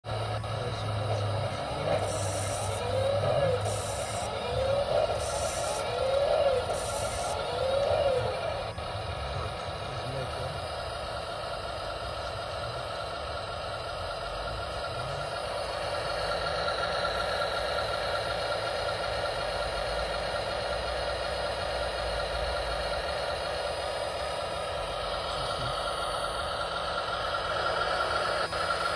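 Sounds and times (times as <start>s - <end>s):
electric motor and gears humming: 0.0s - 28.9s
high-pitched whine: 0.0s - 28.9s
rc model engine drone: 0.0s - 28.9s.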